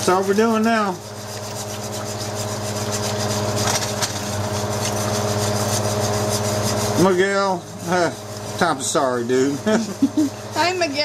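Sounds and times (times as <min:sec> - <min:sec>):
steady low hum: 0:00.0 - 0:11.0
whisk scraping a skillet: 0:00.0 - 0:11.0.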